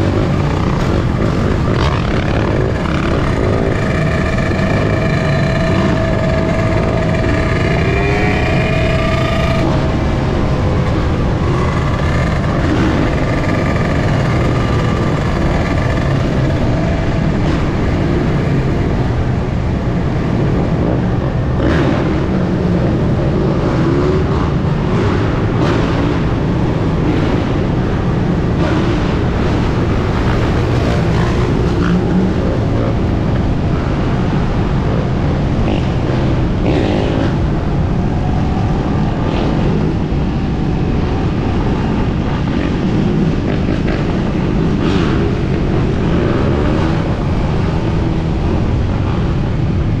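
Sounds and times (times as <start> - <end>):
dirt bike engine running: 0.0 - 50.0.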